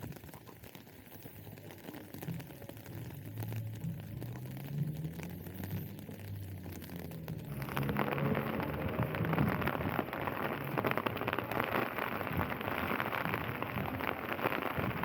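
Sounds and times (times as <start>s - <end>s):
rain drops striking surface: 0.0s - 15.0s.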